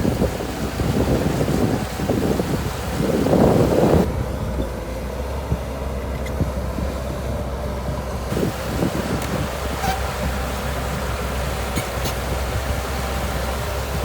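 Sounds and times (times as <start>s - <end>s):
bulldozer engine running: 0.0s - 14.0s
wind buffeting microphone: 0.0s - 14.0s.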